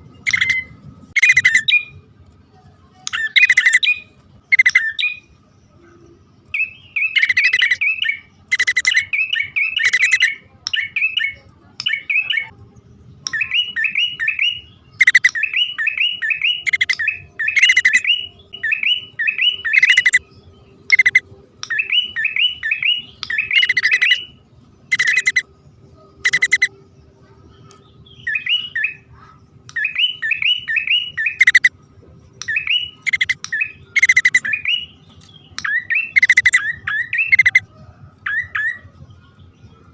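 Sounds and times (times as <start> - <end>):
bird chirping sharply: 0.2 - 1.9, 3.1 - 5.3, 6.5 - 12.5, 13.2 - 25.5, 26.2 - 26.8, 27.6 - 31.8, 32.4 - 37.6.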